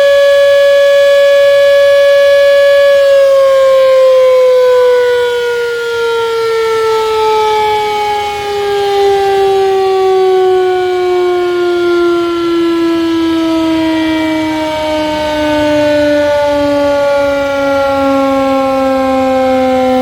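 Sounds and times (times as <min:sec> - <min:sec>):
siren howling down in pitch: 0:00.0 - 0:20.0.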